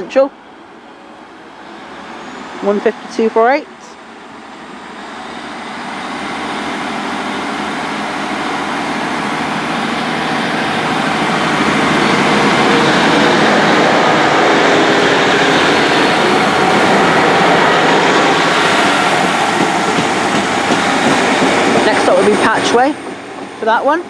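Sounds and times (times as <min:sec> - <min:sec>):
diesel train engines pulling away: 0:00.0 - 0:24.0.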